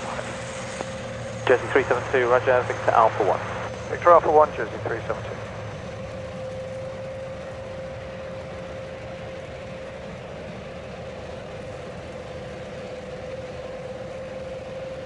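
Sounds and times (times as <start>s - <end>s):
jet engine whine: 0.0s - 15.0s.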